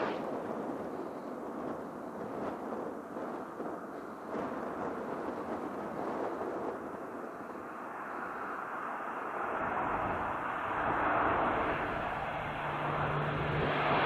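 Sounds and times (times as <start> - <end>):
military aircraft engine rumble: 0.0 - 14.0.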